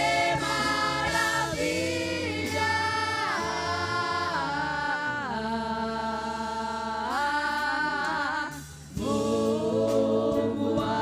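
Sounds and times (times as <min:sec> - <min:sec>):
women's choir singing a hymn: 0:00.0 - 0:11.0.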